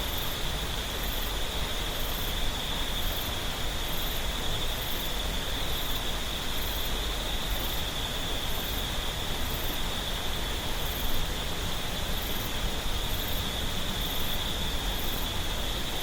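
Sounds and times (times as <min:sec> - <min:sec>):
insects droning: 0:00.0 - 0:16.0
very high insect chirp: 0:00.0 - 0:16.0.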